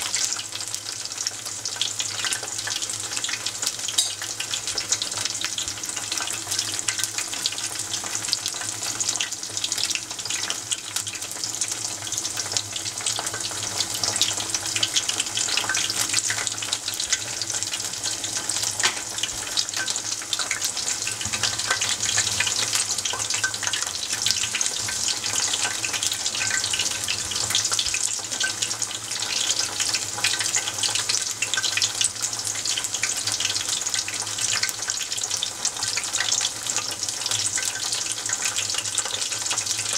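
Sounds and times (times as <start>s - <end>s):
vegetables deep-frying in oil: 0.0s - 39.9s.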